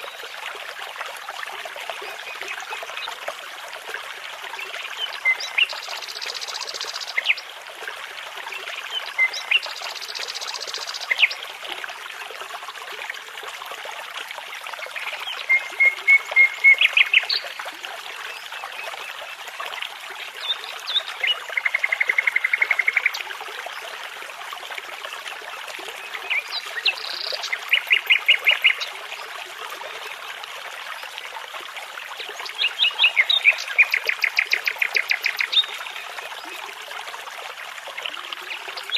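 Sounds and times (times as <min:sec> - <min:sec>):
babbling brook: 0:00.0 - 0:38.9.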